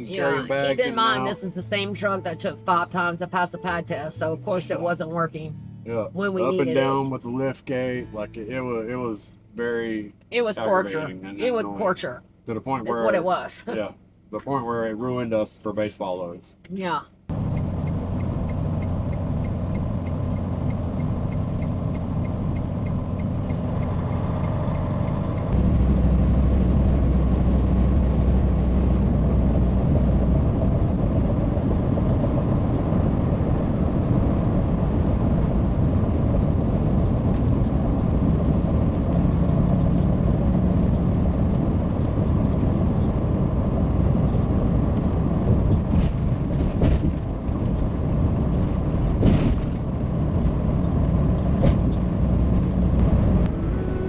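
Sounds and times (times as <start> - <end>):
road noise: 0.0 - 54.0
truck engine rumble: 0.0 - 54.0.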